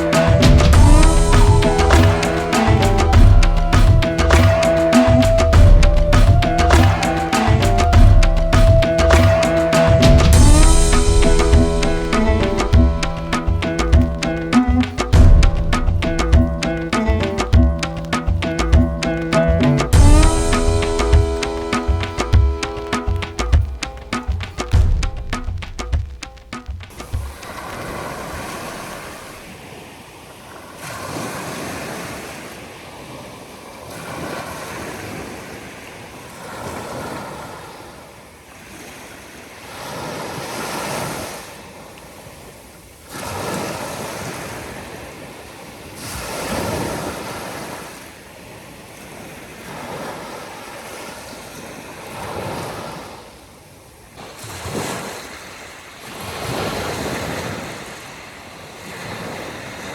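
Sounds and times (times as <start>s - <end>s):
sea waves breaking on beach: 0.0s - 24.9s, 26.6s - 59.9s.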